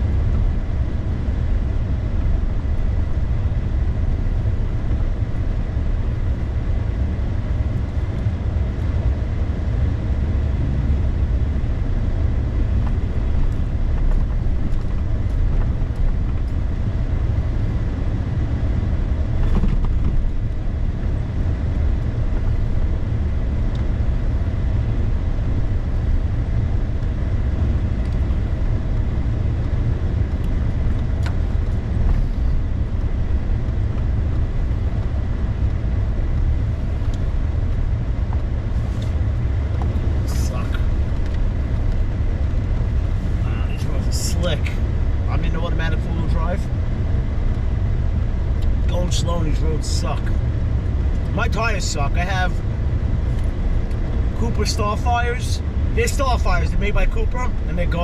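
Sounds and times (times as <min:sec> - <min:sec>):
pickup truck engine rumble: 0:00.0 - 0:58.0
tyre noise on snowy road: 0:00.0 - 0:58.0.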